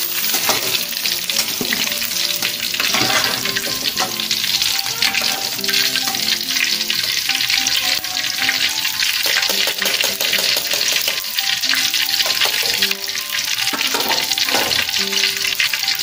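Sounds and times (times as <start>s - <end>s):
oil sizzling and crackling: 0.0s - 16.0s
simple background melody: 0.0s - 16.0s.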